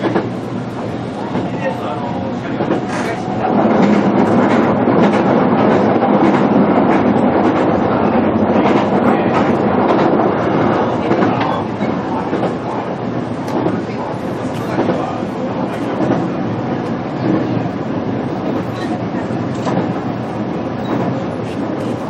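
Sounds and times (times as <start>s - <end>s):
clatter over rail joints: 0.0s - 7.9s, 8.6s - 22.0s
train wheels rumbling on rail: 0.0s - 22.0s.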